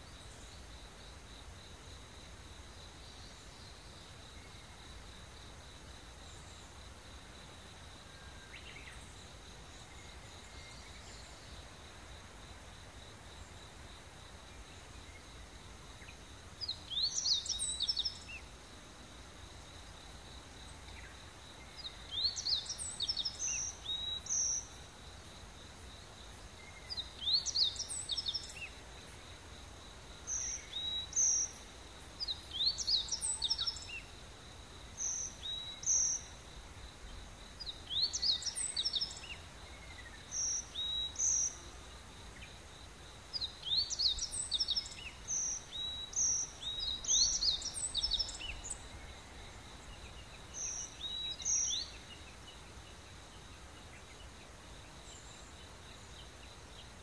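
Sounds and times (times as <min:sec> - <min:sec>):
high insect hum: 0:00.0 - 0:57.0.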